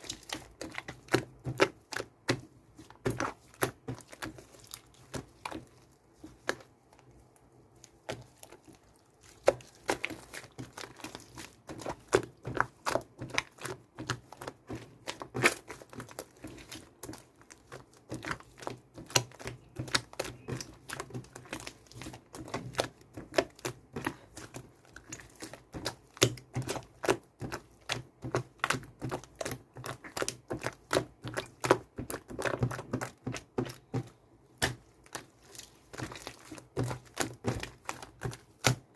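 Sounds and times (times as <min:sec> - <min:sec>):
slime squished by hand: 0:00.0 - 0:38.9.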